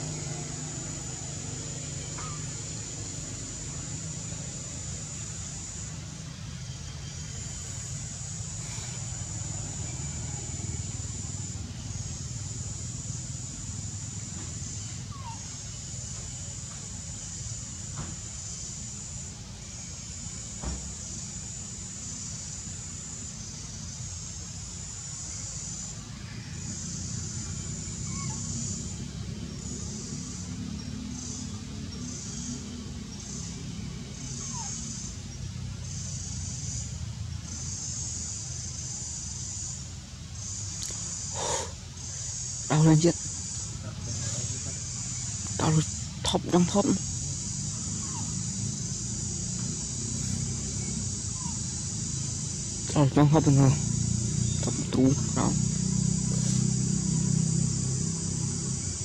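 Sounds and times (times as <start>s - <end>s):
high hissing buzz: 0.0s - 59.0s
high insect drone: 0.0s - 59.0s.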